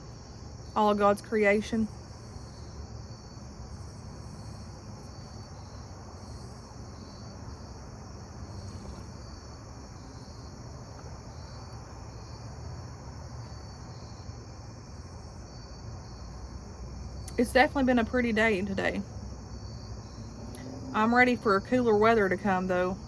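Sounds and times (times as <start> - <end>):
crickets and katydids chirring: 0.0 - 23.0.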